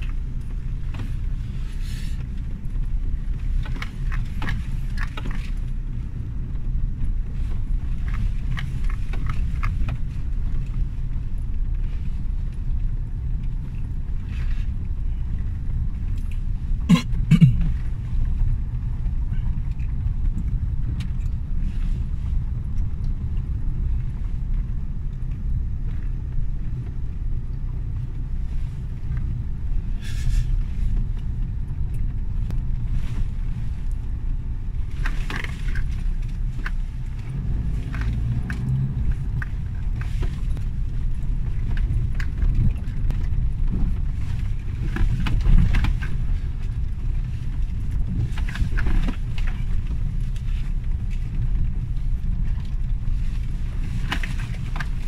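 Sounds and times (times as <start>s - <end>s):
engine and tyres rumbling: 0.0s - 55.0s.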